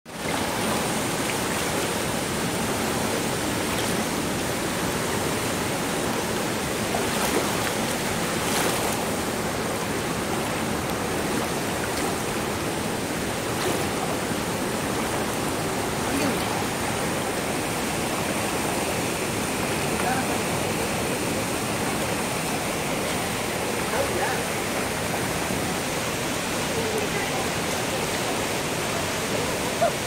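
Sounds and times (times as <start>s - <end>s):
stream rushing over rapids: 0.1s - 30.0s.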